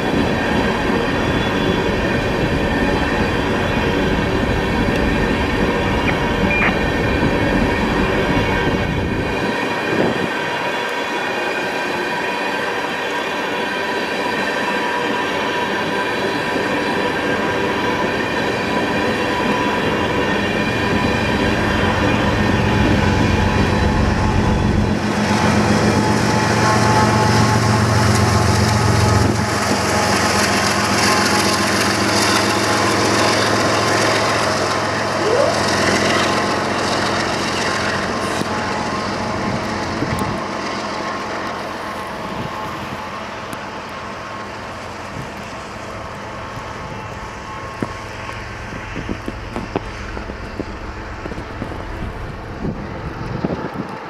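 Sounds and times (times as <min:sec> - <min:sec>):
diesel locomotive engine rumble: 0:00.0 - 0:54.0.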